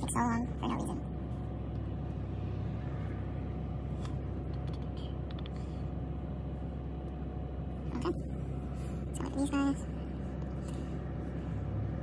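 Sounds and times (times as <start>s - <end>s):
car engine idle hum: 0.0s - 12.0s.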